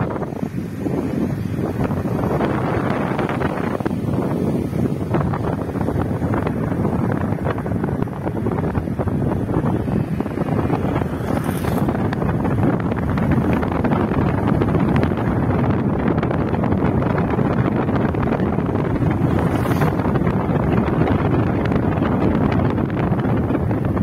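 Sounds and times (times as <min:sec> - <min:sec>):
car driving: 0:00.0 - 0:24.0
wind buffeting microphone: 0:00.0 - 0:24.0.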